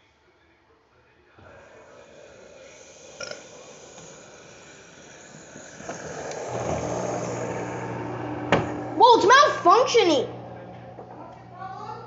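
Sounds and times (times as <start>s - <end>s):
drain pump humming: 1.5s - 12.0s.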